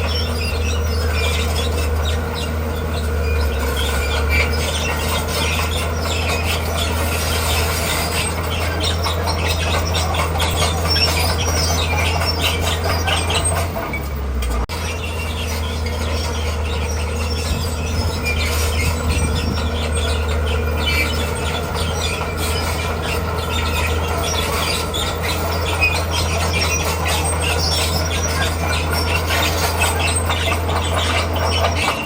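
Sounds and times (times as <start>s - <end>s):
diesel engine running: 0.0s - 32.0s
steel tracks squealing and clanking: 0.0s - 32.0s.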